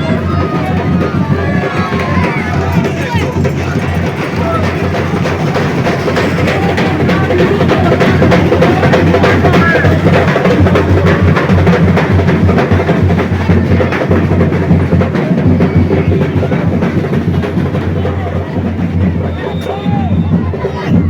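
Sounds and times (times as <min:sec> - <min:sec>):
bass drum: 0:00.0 - 0:21.0
drum percussion music: 0:00.0 - 0:21.0.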